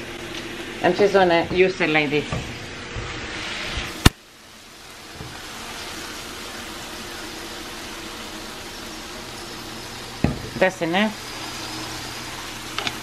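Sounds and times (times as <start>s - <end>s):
food sizzling in frying pan: 1.9s - 13.0s.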